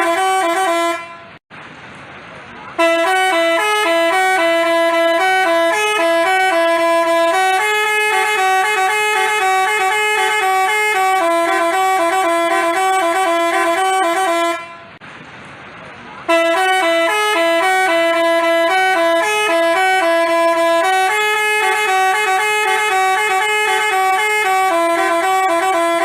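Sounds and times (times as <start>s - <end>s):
multi-tone bus horn tune: 0.0s - 1.4s, 2.7s - 15.0s, 16.2s - 26.0s.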